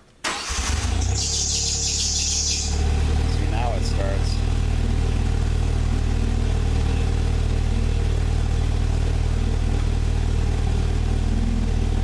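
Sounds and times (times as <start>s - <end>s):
engine idling: 0.3s - 12.0s.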